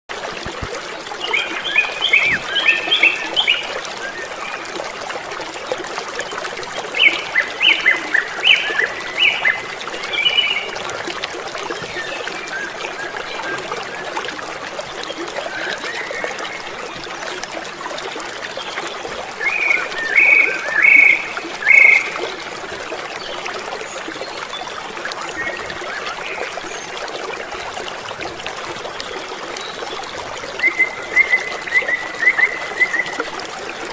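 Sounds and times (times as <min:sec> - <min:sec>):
river water running: 0:00.1 - 0:33.9.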